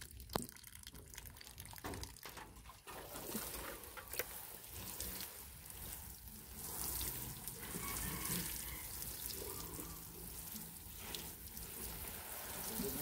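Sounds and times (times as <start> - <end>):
water sprinkling from watering can: 0.0 - 13.0.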